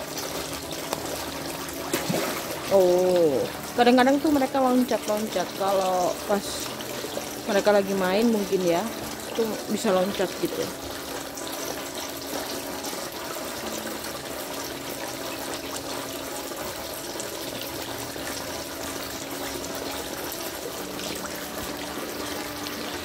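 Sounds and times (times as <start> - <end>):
pond water trickling and splashing: 0.0 - 23.0.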